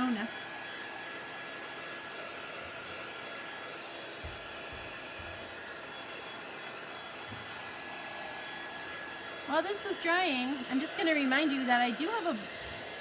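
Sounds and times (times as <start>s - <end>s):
heat tool blowing: 0.0s - 13.0s.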